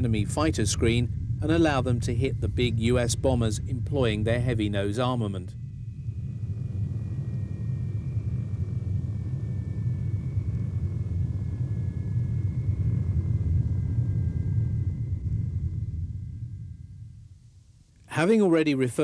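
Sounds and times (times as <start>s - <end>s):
thin whining tones: 0.0s - 18.6s
jet engines rumbling: 0.0s - 18.8s.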